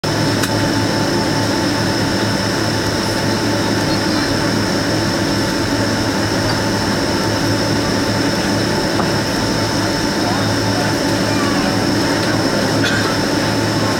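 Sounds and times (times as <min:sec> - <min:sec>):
high engine whine: 0:00.0 - 0:13.9
jet engine rumble and hum: 0:00.0 - 0:13.9.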